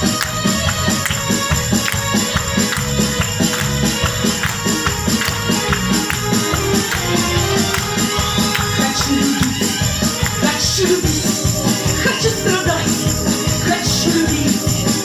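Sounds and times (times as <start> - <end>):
bass notes beat: 0.0 - 15.0.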